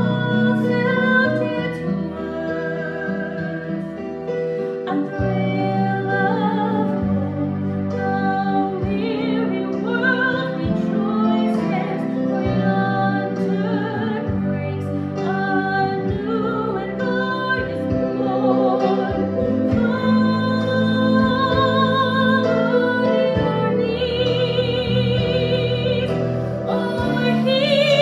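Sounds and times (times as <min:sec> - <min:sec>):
instrumental accompaniment: 0:00.0 - 0:28.0
person singing with vibrato: 0:00.0 - 0:28.0.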